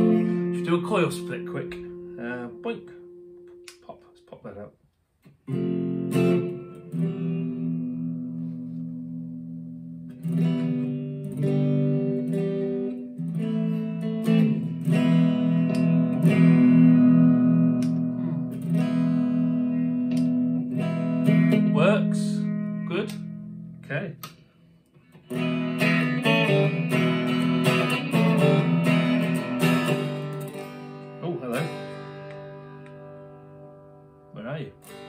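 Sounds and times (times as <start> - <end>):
clean electric guitar chords: 0.0 - 4.0, 5.3 - 35.0.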